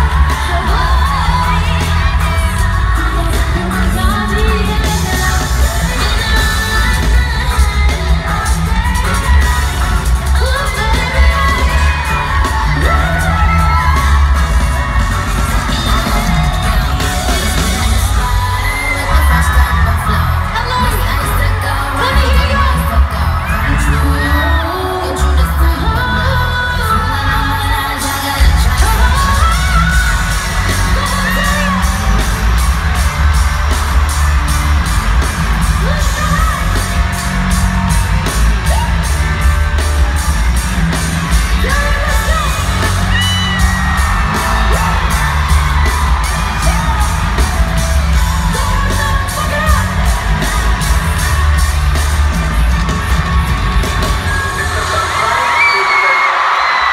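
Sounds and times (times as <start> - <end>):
woman singing: 0.0 - 55.5
pop song over arena speakers: 0.0 - 56.9.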